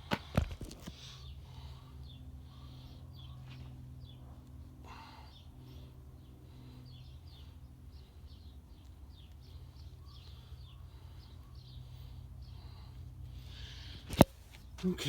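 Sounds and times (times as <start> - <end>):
songbirds chirping: 0.0 - 15.0
faint steady low hum: 0.9 - 15.0.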